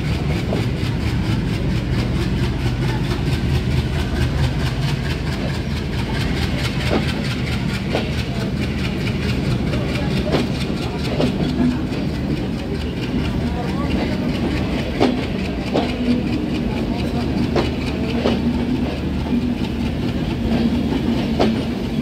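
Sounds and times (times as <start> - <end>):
train coaches rolling past: 0.0 - 22.0.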